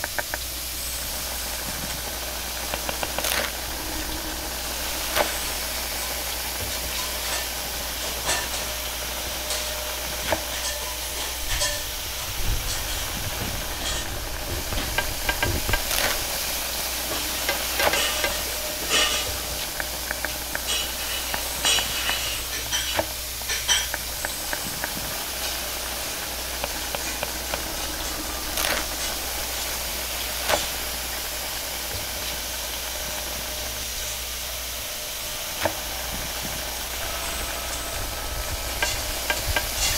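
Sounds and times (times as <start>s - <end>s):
food sizzling: 0.0s - 39.9s
gas burner hiss: 0.0s - 39.9s.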